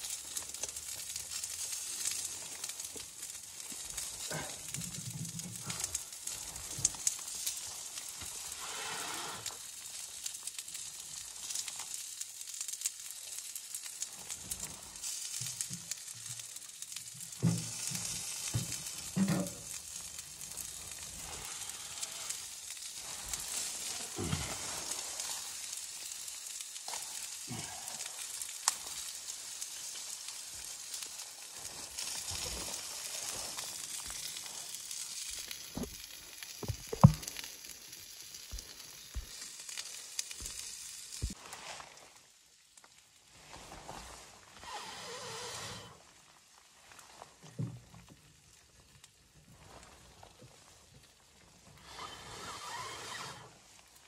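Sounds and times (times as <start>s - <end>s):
food sizzling on a grill: 0.0s - 54.0s.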